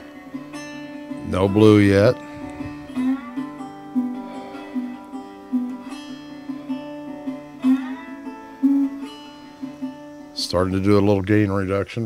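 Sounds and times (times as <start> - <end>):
plucked guitar music: 0.0 - 11.8.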